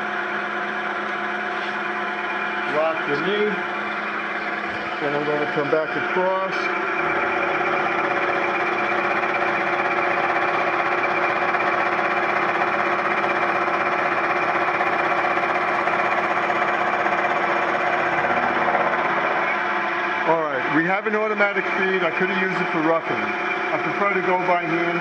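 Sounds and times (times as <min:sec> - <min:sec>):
milling cutter cutting metal: 0:00.0 - 0:25.0
milling machine hum: 0:00.0 - 0:25.0.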